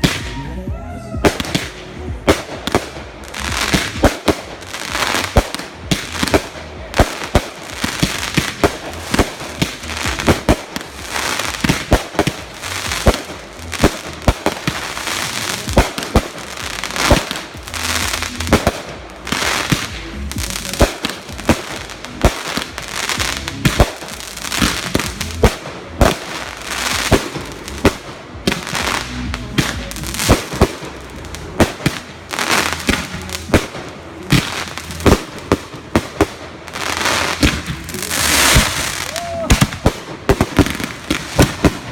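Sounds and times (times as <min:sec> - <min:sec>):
fireworks bangs and pops: 0:00.0 - 0:00.5, 0:01.2 - 0:41.9
fireworks crackle and hiss: 0:01.2 - 0:41.9.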